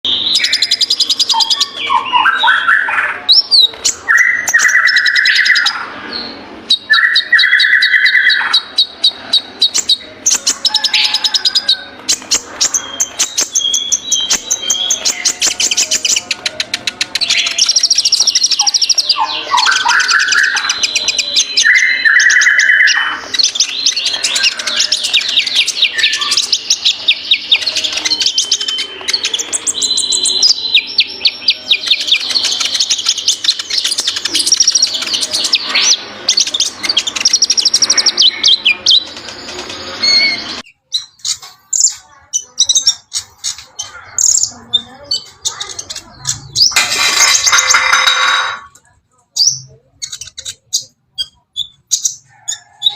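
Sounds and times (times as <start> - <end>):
sunbird singing: 0.0 - 48.7.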